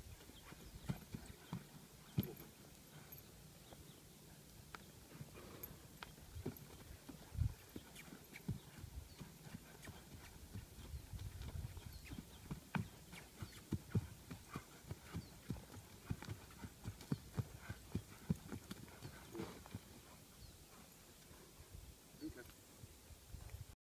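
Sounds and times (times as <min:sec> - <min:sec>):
horse hoofbeats: 0:00.2 - 0:03.8, 0:04.8 - 0:20.9.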